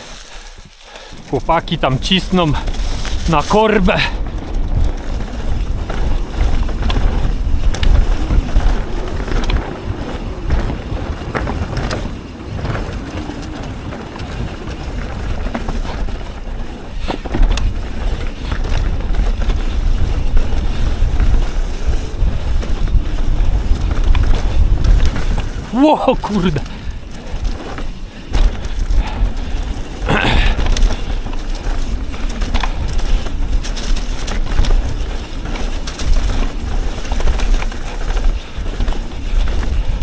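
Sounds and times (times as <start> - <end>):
bike knocking and rattling: 0.0 - 40.0
tyres on dirt: 0.0 - 40.0
wind buffeting microphone: 1.1 - 40.0.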